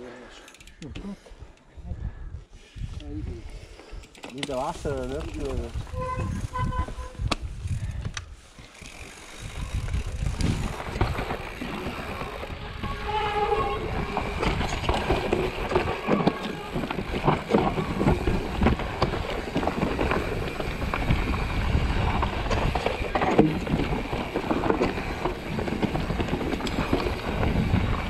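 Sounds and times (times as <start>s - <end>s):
bike rattling: 3.4s - 28.0s
tyres crunching over dirt trail: 3.5s - 28.0s.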